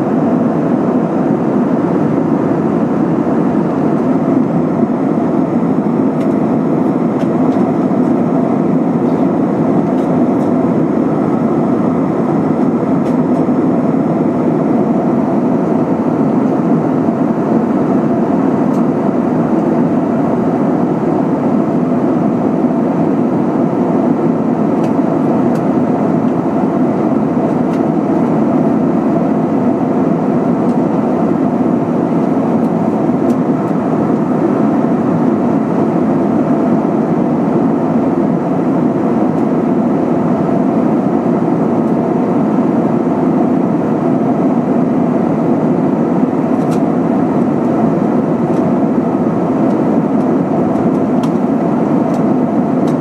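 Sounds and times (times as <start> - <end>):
jet engines droning: 0.0 - 53.0.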